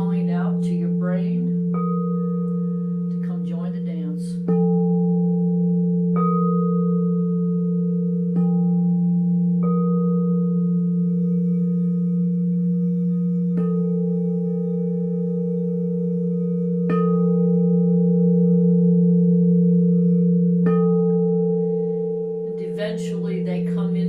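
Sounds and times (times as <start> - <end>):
low held singing bowl tone: 0.0 - 24.0
singing bowl struck ringing: 0.0 - 24.0.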